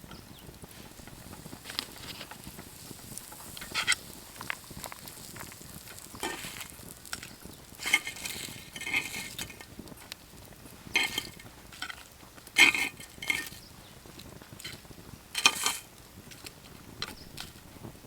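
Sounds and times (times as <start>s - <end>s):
meat sizzling on a grill: 0.0s - 18.0s
cooking utensils clinking: 0.9s - 10.1s, 10.8s - 13.7s, 14.5s - 17.6s.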